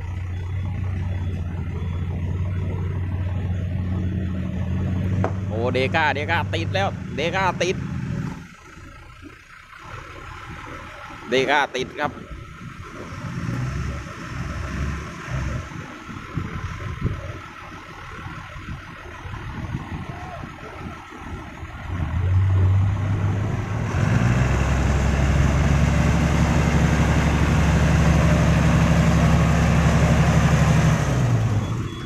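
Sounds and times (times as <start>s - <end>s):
diesel truck engine revving: 0.0s - 32.0s.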